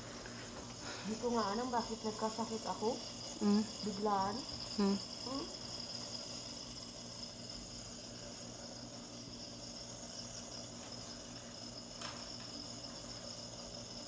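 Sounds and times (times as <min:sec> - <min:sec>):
continuous high hiss: 0:00.0 - 0:14.0
nebulizer buzzing hum: 0:00.0 - 0:14.0.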